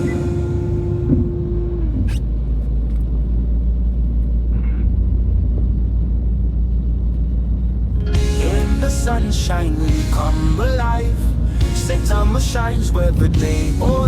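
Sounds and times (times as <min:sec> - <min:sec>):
heavy engine rumbling: 0:00.0 - 0:14.0.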